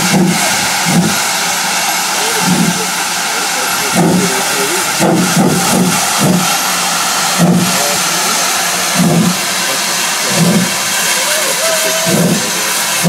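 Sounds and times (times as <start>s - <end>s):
locomotive exhaust chuffs: 0.0s - 13.0s
steam hissing from drain cocks: 0.0s - 13.0s.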